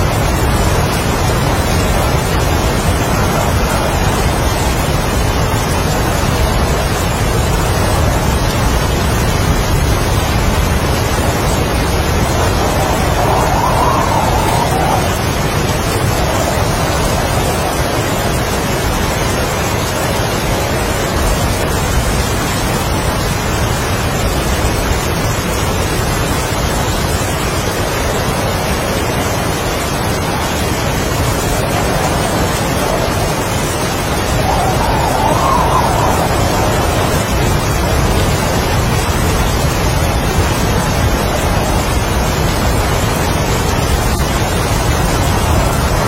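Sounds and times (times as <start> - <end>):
heavy rain: 0.0 - 46.0
strong wind howling: 0.0 - 46.0.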